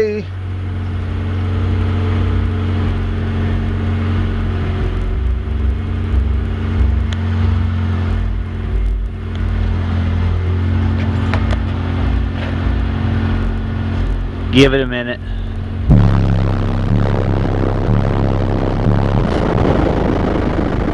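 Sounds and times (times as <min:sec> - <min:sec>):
bass-heavy music from subwoofers: 0:00.0 - 0:20.9.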